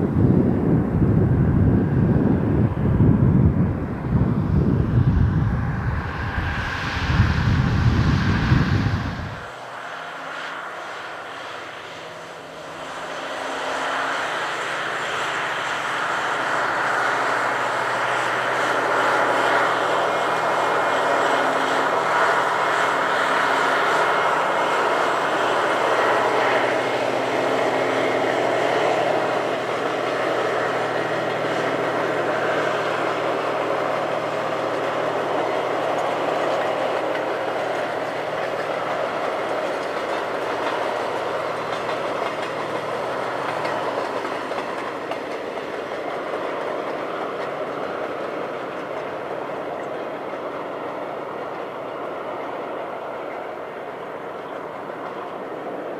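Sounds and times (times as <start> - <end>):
diesel engine drone: 0.0 - 55.9
freight train wagons rumbling: 0.0 - 55.9.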